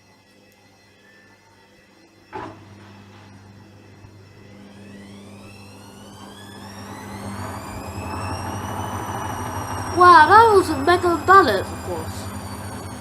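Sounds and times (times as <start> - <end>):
washing machine motor whine: 0.8 - 13.0.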